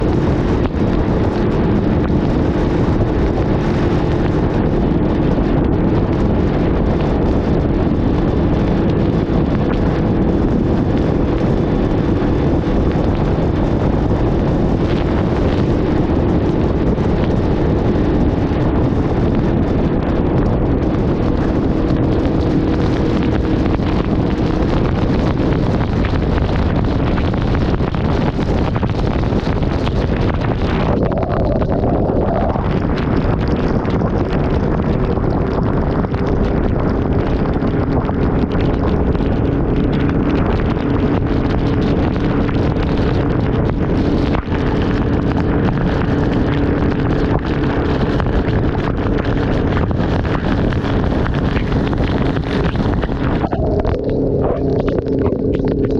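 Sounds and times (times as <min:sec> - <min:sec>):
motorcycle engine cruising: 0:00.0 - 0:55.9
wind rushing over microphone: 0:00.0 - 0:55.9.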